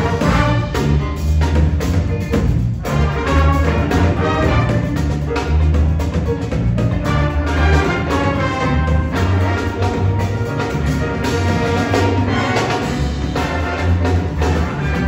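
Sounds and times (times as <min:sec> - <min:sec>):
saxophones and brass: 0:00.0 - 0:01.8, 0:02.5 - 0:15.0
drum kit: 0:00.0 - 0:15.0
piano: 0:00.0 - 0:15.0
steady bass line: 0:00.0 - 0:15.0.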